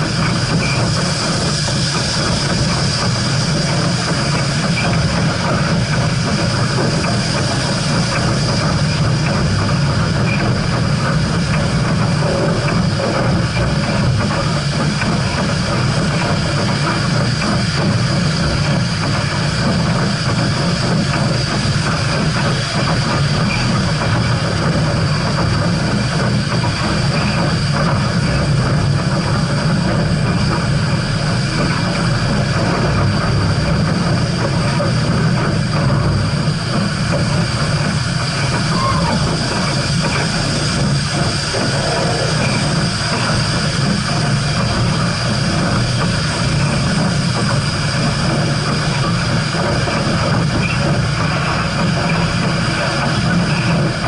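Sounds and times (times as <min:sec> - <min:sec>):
steam train rumbling on rails: 0:00.0 - 0:54.0.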